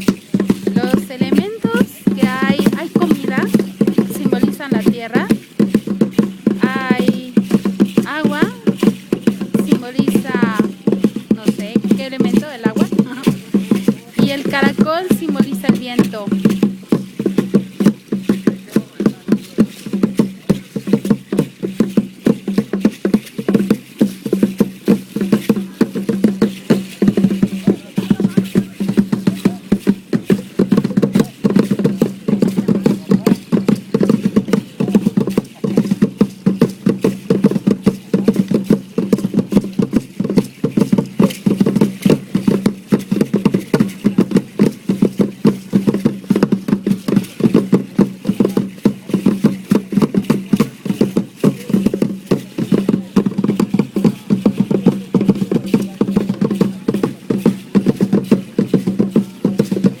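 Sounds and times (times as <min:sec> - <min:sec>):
drum beaten fast: 0:00.0 - 1:00.0.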